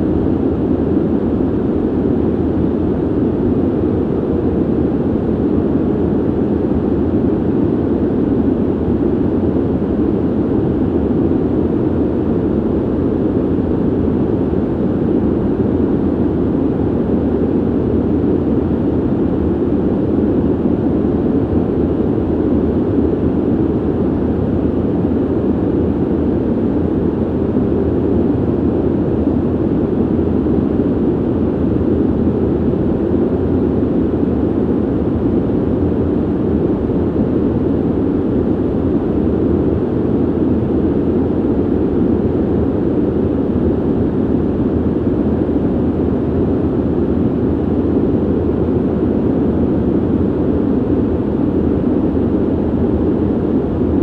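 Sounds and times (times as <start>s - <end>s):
ventilation air rushing: 0.0s - 54.0s.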